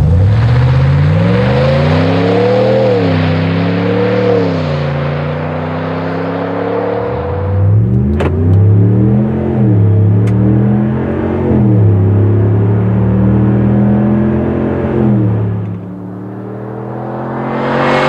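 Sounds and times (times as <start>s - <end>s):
engine revving and idling: 0.0s - 18.0s.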